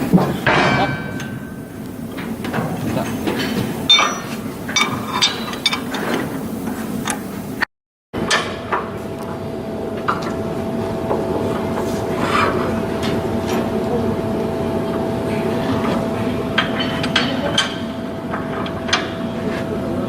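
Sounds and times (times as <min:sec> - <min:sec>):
shipyard background noise: 0:00.0 - 0:20.0
steady hum: 0:00.0 - 0:20.0.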